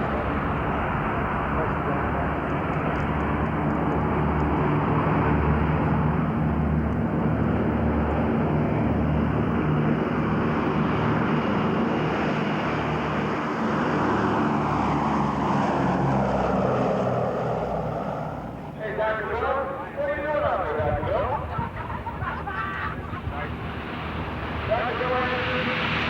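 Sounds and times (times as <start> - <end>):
propeller planes droning overhead: 0.0 - 26.0.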